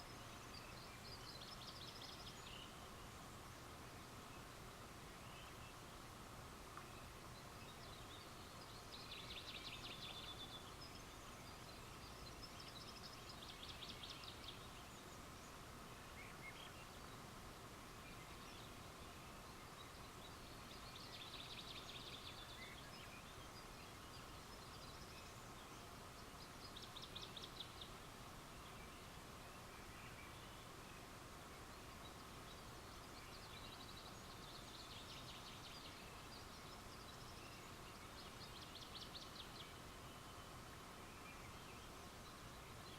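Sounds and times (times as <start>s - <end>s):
faint night ambience: 0.0s - 42.9s.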